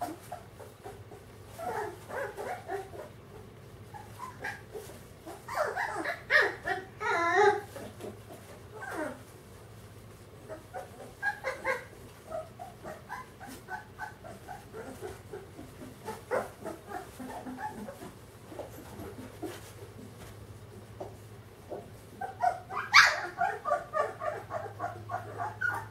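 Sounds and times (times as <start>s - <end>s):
puppies crying: 0.0s - 3.2s, 3.9s - 9.3s, 10.4s - 19.8s, 21.7s - 25.9s.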